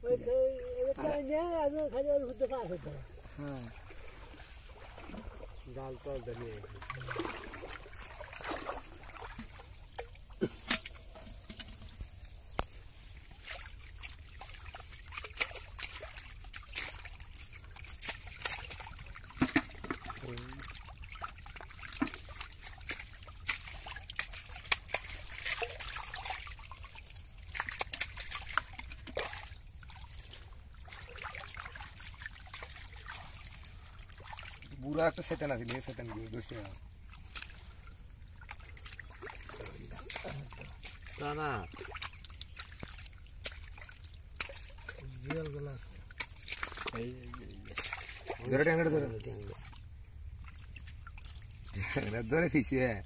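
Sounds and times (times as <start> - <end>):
water trickling: 0.0 - 53.0
hands splashing in muddy water: 3.4 - 52.8.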